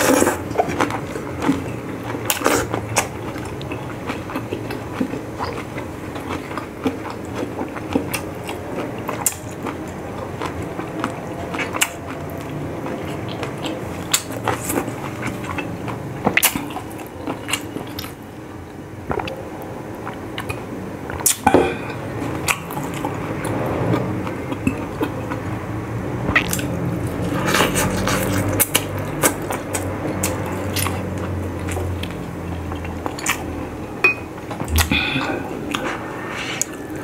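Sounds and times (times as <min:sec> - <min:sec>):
person chewing: 0:00.0 - 0:19.4, 0:20.0 - 0:25.5, 0:26.3 - 0:33.7, 0:34.3 - 0:37.0.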